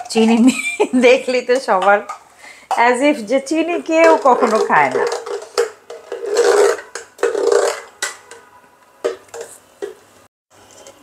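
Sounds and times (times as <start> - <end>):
spoon stirring liquid in jug: 0.0 - 10.0.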